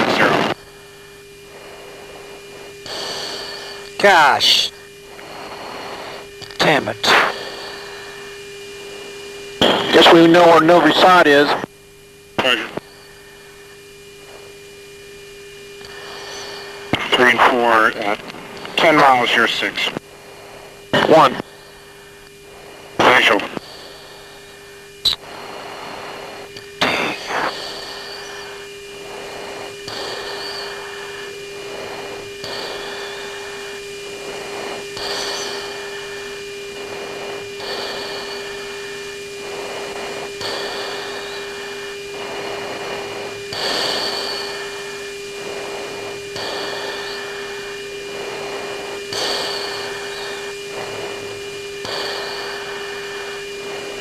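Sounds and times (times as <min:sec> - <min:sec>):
electrical hum: 0:00.0 - 0:54.0
intercom hiss: 0:00.0 - 0:54.0
thin high whine: 0:00.0 - 0:54.0.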